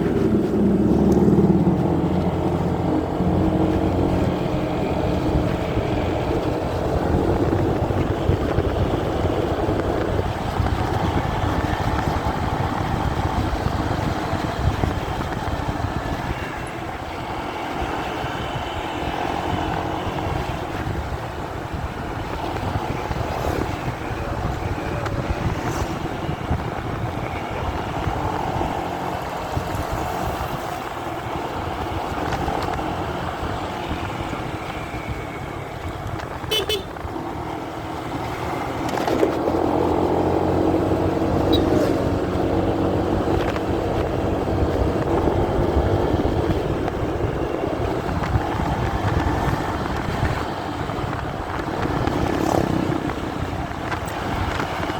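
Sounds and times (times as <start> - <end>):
motorcycle engine droning: 0.0 - 54.9
passing traffic: 0.0 - 54.9
road rumble: 0.0 - 54.9.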